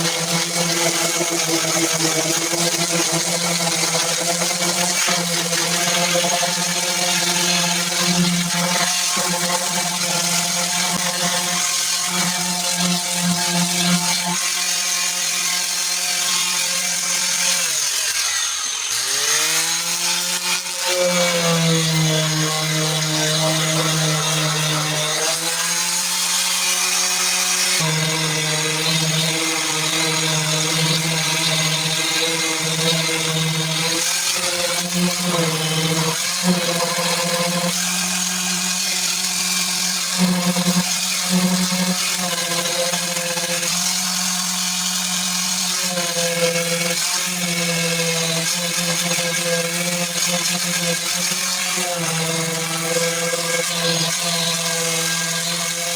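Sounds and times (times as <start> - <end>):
power sander on metal panel: 0.0 - 55.9.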